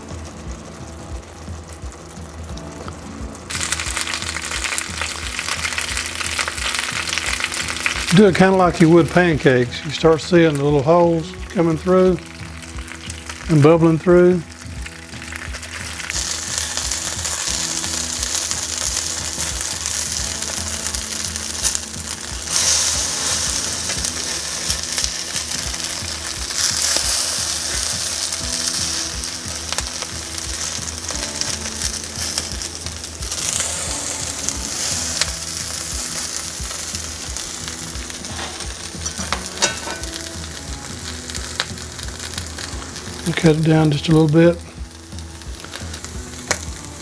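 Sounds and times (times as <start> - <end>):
patties sizzling in butter: 0.0 - 47.0.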